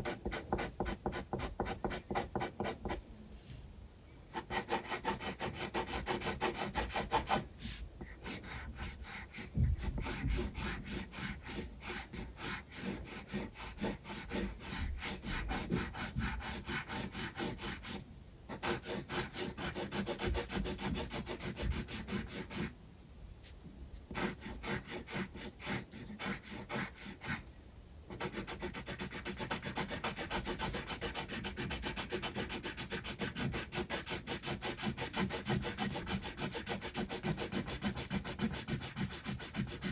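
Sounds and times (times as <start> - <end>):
pencil scratching on paper: 0.0 - 3.0, 4.3 - 22.7, 24.0 - 27.4, 28.1 - 39.9.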